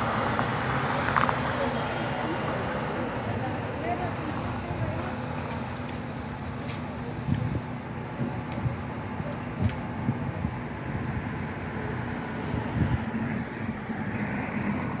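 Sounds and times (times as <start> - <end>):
vehicle approaching: 0.0 - 6.7, 7.7 - 15.0
low hum of traffic: 0.0 - 15.0.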